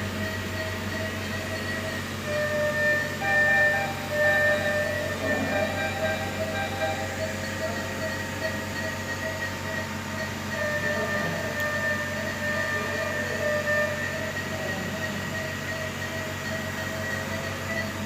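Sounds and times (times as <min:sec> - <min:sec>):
high whining tones: 0:00.0 - 0:18.0
steady machine hum: 0:00.0 - 0:18.0.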